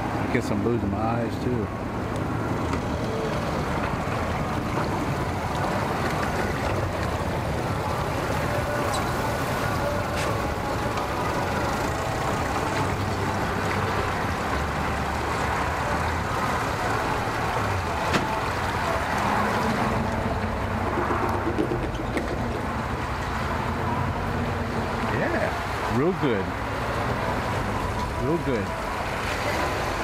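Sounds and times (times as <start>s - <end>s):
outboard motor idling: 1.8s - 30.0s.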